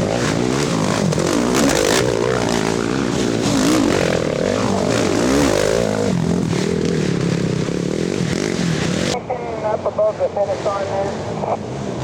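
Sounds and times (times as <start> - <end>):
atv engines revving: 0.0 - 12.0.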